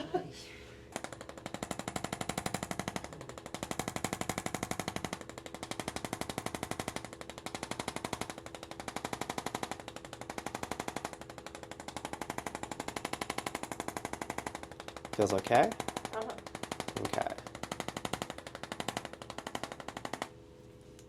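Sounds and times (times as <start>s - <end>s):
massage gun hammering: 0.9s - 20.4s.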